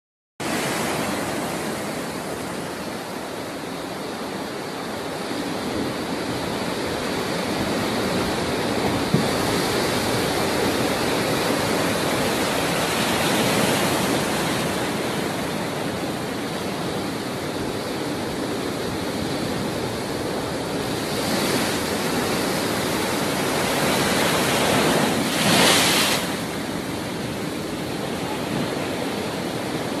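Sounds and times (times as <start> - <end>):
rough sea surf breaking: 0.4 - 30.0.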